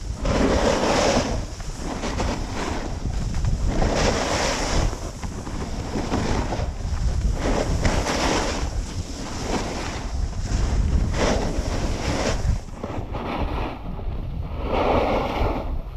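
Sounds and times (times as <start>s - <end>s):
snowboard edge scraping snow: 0.0s - 15.9s
wind rumble on microphone: 0.0s - 15.9s.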